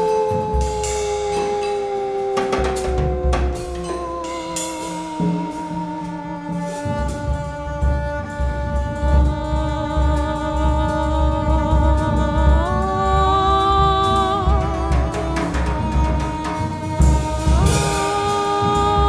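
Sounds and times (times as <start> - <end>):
bowed double bass: 0.0 - 19.0
drum and cymbal strikes: 0.0 - 19.0.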